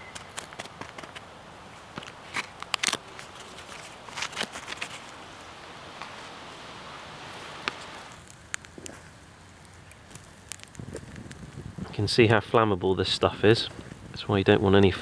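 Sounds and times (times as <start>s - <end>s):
gritty charcoal scraping: 0.1s - 5.2s, 7.7s - 15.0s.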